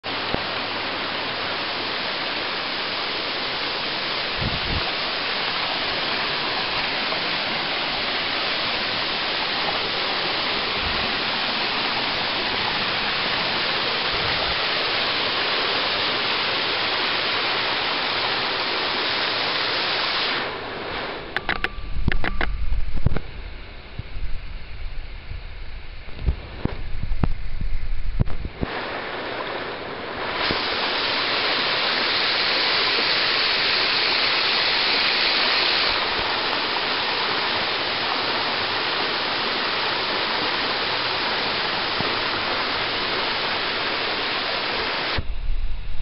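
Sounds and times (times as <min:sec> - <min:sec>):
waterfall rushing: 0:00.0 - 0:22.4, 0:28.5 - 0:46.0.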